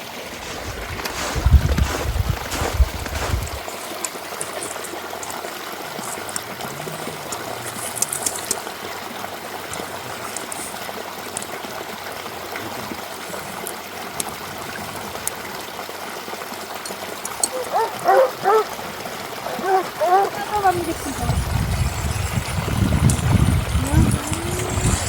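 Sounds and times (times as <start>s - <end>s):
flowing water: 0.0s - 25.0s.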